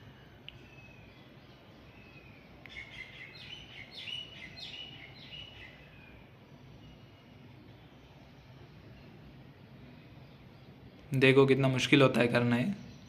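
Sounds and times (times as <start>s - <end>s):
birds chirping: 0.0s - 13.0s
low steady hum: 0.0s - 13.0s.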